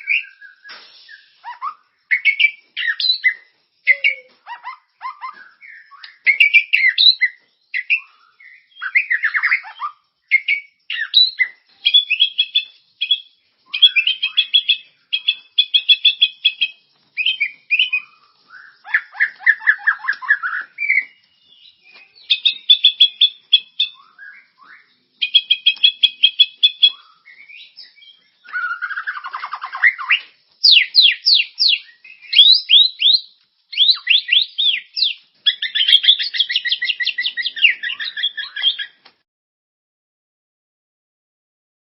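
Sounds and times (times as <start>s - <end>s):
songbird song: 0.0s - 39.2s.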